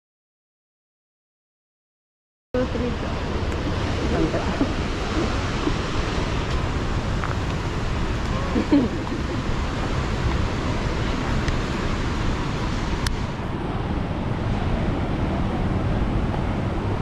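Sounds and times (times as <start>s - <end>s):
wind rumbling on microphone: 2.6s - 17.0s.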